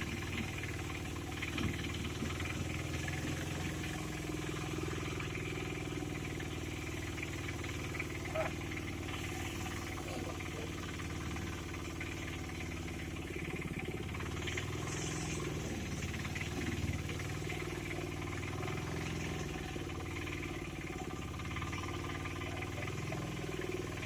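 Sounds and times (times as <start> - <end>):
small engine running steadily: 0.0 - 24.0.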